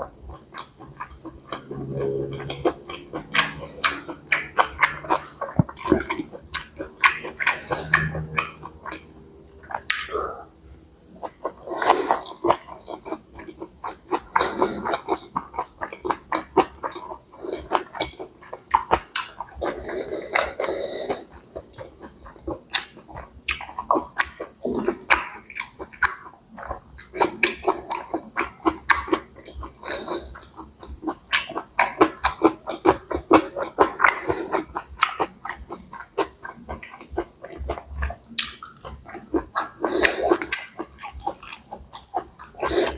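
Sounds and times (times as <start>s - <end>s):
person chewing noodles: 0.0s - 42.9s.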